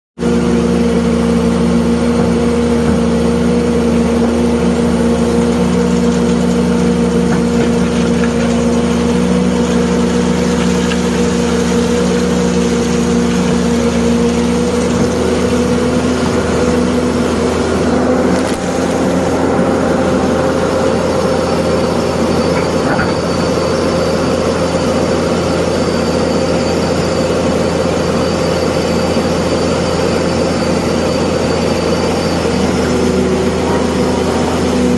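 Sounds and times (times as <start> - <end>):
excavator engine humming: 0.2 - 34.9.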